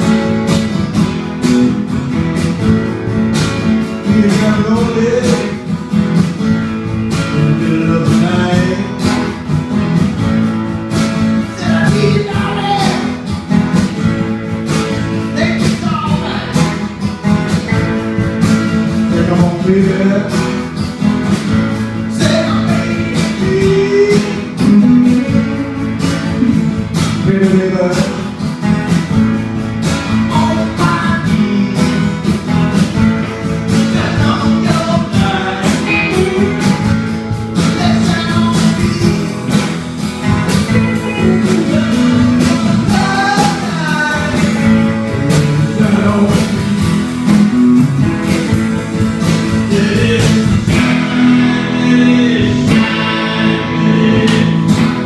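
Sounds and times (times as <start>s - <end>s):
electric guitars playing: 0.0s - 55.0s.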